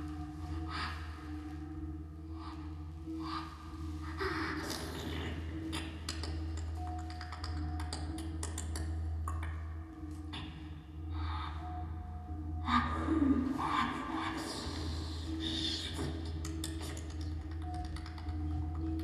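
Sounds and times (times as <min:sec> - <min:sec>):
low drone with held tones: 0:00.0 - 0:19.0.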